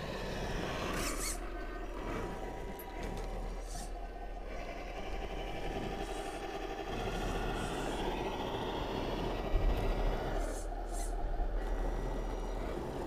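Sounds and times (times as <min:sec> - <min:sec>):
electric motor and drivetrain: 0:00.0 - 0:13.0
simulated engine sound: 0:00.0 - 0:13.0.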